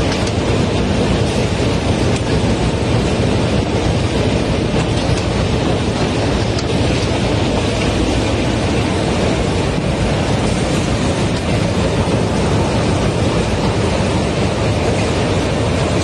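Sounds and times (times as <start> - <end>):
factory line mechanical din: 0.0 - 16.0.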